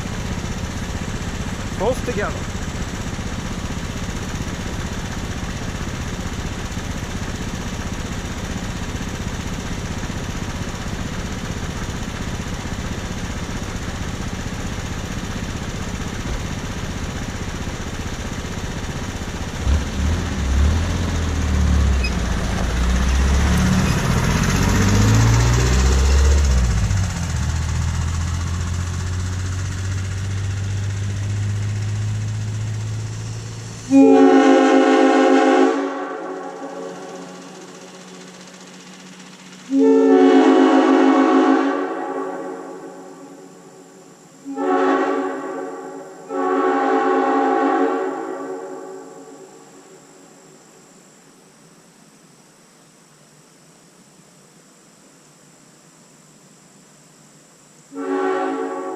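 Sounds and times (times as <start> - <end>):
engine running: 0.0 - 50.9.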